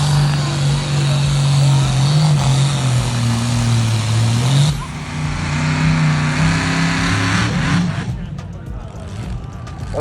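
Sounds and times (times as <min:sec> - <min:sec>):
engine running at high revs: 0:00.0 - 0:10.0.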